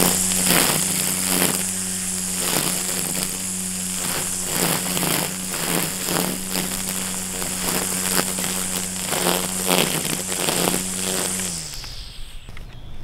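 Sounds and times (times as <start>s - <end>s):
trimmer line swishing through grass: 0.0s - 12.6s
string trimmer running: 0.0s - 13.0s.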